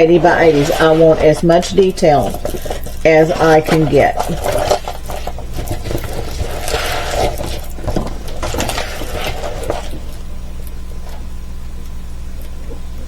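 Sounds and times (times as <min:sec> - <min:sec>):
canvas rustling and crinkling: 0:00.0 - 0:11.0
low electrical hum: 0:00.0 - 0:13.0.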